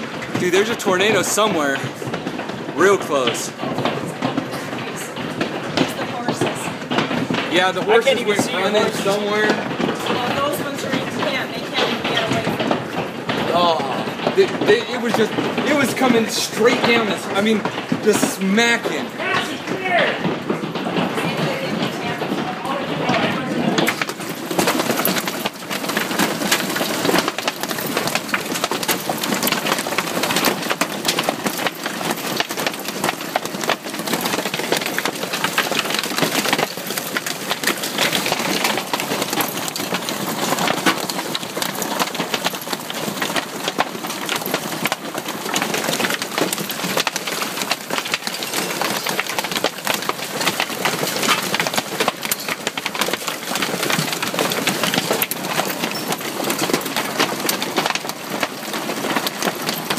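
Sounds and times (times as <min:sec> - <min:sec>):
hailstones pelting down: 0:00.0 - 0:59.9.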